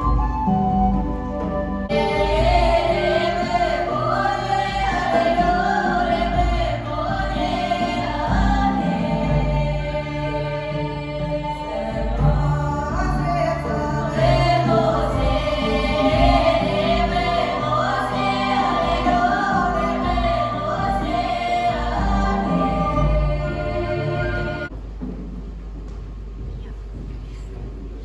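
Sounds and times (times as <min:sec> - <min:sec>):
musical accompaniment: 0:00.0 - 0:27.1
choir singing: 0:01.8 - 0:24.7.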